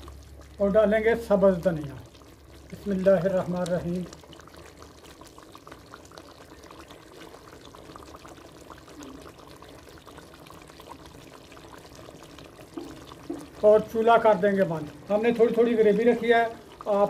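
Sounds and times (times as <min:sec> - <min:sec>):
gravy bubbling with pops: 0:00.0 - 0:17.0.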